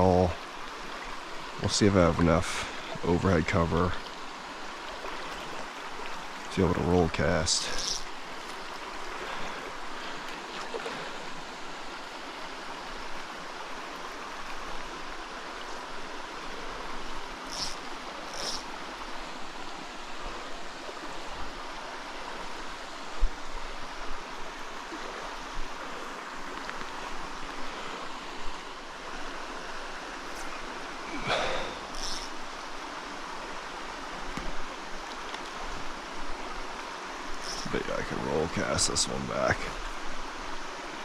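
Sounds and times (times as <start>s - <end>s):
stream running over rock: 0.0s - 41.0s.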